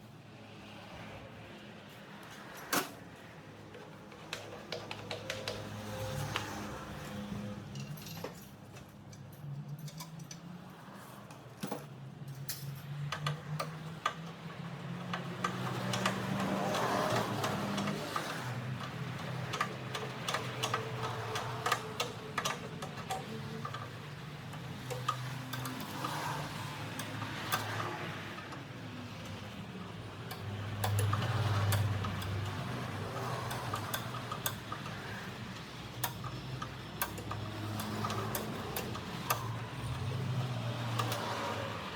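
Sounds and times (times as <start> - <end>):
metallic clicks of hand tools: 4.1 - 6.6, 7.7 - 10.6, 11.3 - 29.4, 30.2 - 41.9.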